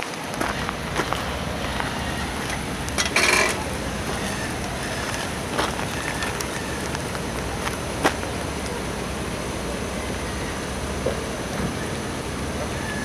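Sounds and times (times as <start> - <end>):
heavy truck rumbling: 0.0 - 13.0.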